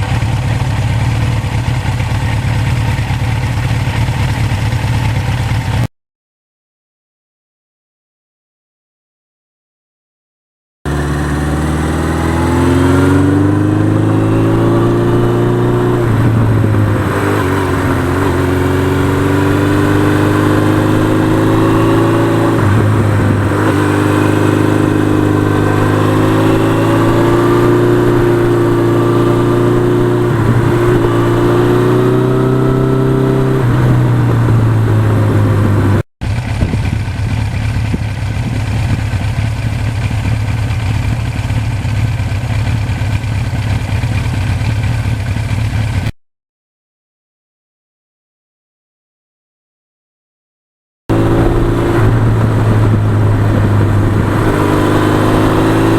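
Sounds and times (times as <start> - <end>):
motorcycle engine revving: 0.0 - 5.9, 10.9 - 46.2, 51.1 - 55.9.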